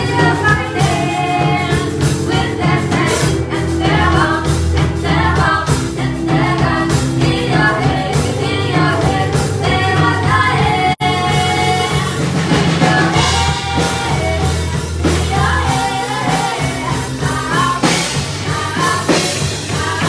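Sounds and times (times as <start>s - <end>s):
bass guitar: 0.0s - 20.0s
drum kit: 0.0s - 20.0s
guitar: 0.0s - 20.0s
woman singing: 0.0s - 20.0s.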